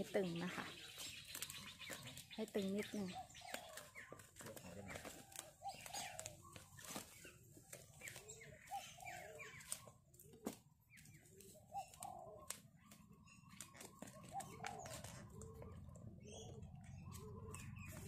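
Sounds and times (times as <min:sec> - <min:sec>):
faint bird calls: 0:00.0 - 0:18.0.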